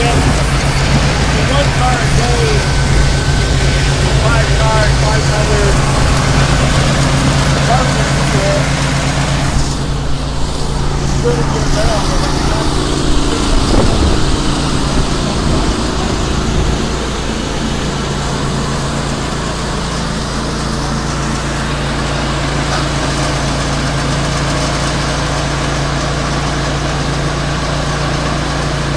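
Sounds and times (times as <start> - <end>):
engine humming steadily: 0.0 - 28.9.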